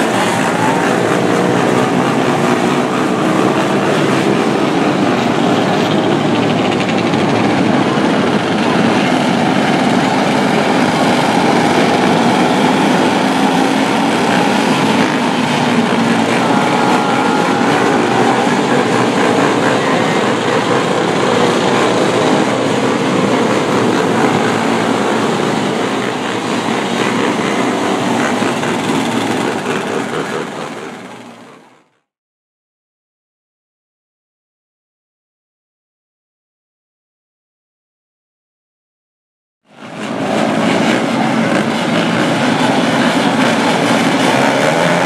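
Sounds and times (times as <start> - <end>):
mixed engine drone: 0.0 - 32.1, 39.7 - 45.0.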